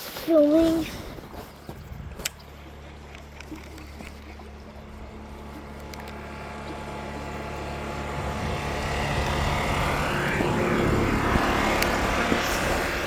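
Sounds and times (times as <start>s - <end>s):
engine approaching: 0.8s - 13.0s.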